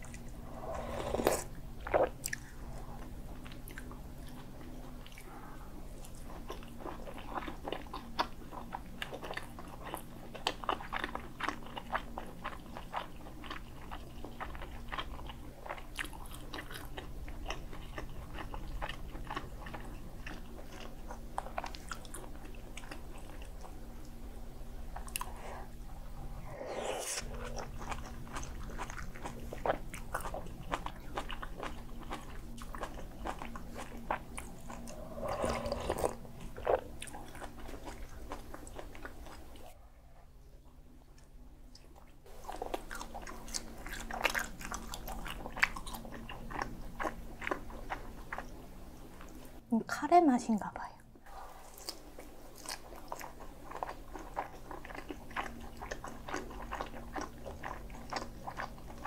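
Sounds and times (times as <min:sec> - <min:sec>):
person chewing food: 0:00.0 - 0:39.8, 0:41.6 - 0:49.6, 0:51.3 - 0:59.0.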